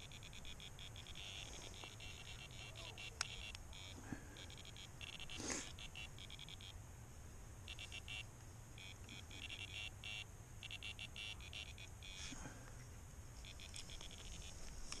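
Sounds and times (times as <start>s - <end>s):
rapid high electronic beeps: 0.0s - 6.8s, 7.7s - 12.3s, 13.4s - 14.6s.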